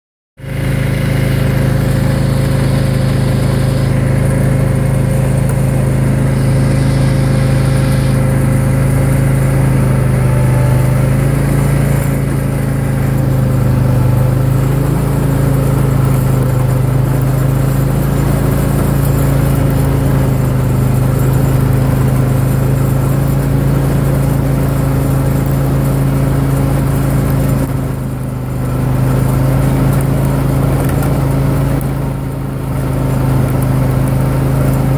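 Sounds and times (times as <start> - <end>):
lawn tractor engine running: 0.4 - 34.9.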